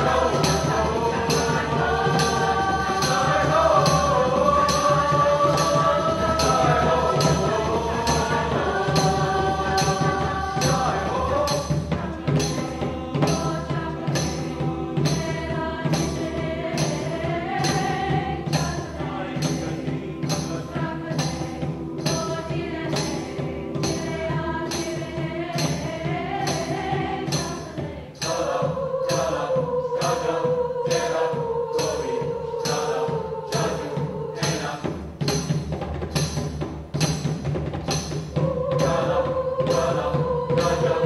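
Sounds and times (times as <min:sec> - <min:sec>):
high percussion beat: 0:00.0 - 0:41.0
mixed choir singing chords: 0:00.0 - 0:41.0.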